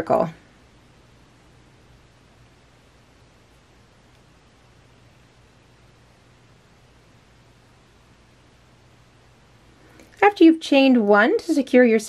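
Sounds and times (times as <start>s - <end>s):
faint steady hiss: 0.0s - 12.0s
low hum: 0.2s - 10.2s.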